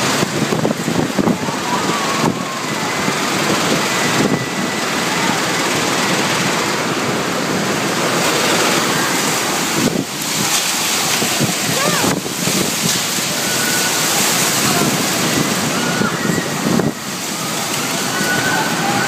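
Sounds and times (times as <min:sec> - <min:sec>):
wind rushing through hangar door: 0:00.0 - 0:19.0.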